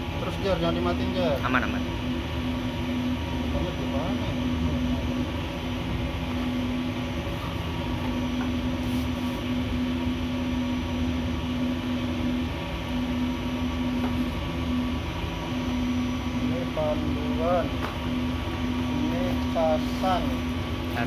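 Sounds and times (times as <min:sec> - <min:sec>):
machine hum with droning tone: 0:00.0 - 0:21.0.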